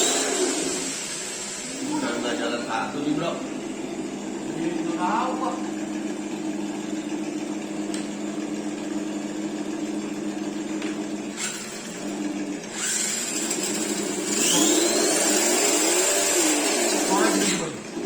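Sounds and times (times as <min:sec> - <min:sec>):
electric toy truck humming: 0:00.0 - 0:02.5, 0:03.2 - 0:18.0
motor whine rising in pitch: 0:00.0 - 0:18.0.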